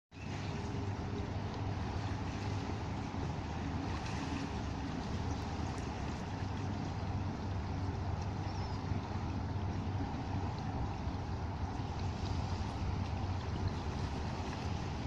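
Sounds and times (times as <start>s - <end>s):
choppy water along shore: 0.1s - 15.0s
wind: 0.1s - 15.0s
distant motorboats droning: 0.2s - 15.0s.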